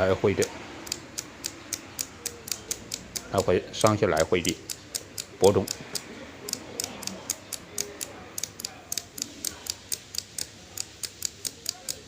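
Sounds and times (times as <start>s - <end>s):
small switch clicking rapidly: 0.8s - 3.5s, 4.2s - 12.0s.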